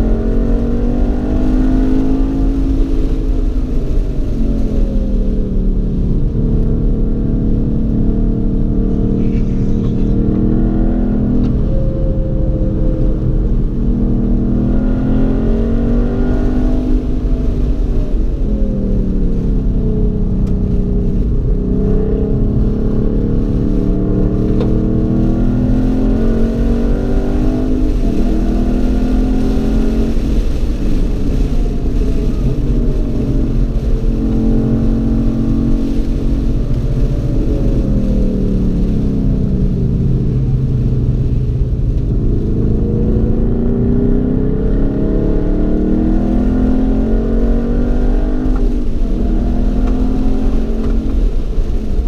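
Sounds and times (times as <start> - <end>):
car engine revving: 0.0 - 52.0
road and wind rumble: 0.0 - 52.0.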